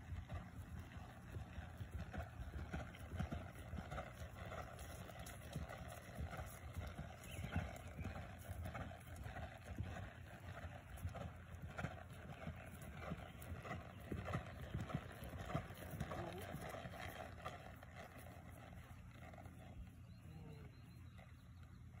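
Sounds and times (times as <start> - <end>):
horse hooves walking on grass: 0.0 - 22.0.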